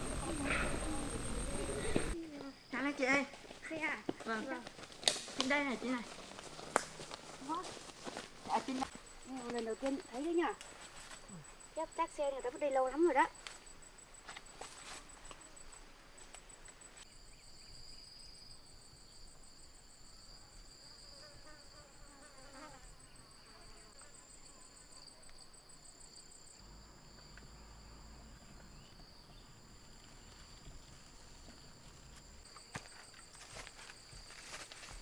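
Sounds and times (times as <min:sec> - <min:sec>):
insects pulsing high trill: 0:00.0 - 0:03.9, 0:08.5 - 0:35.0
insects continuous high buzz: 0:00.0 - 0:35.0.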